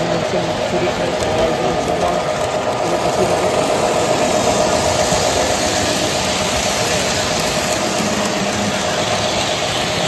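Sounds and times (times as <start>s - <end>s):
constant hum: 0.0s - 10.0s
model train rumble: 0.0s - 10.0s.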